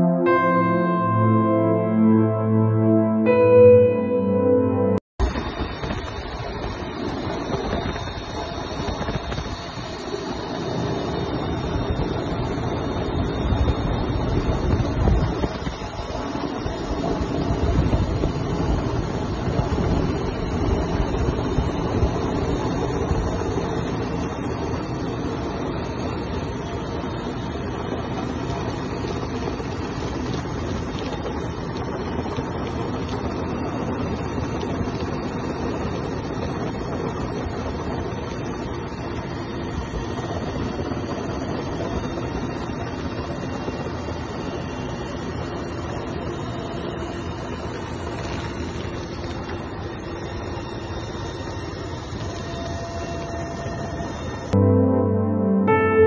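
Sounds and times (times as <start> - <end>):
helicopter engine and rotor noise: 5.2 - 54.8.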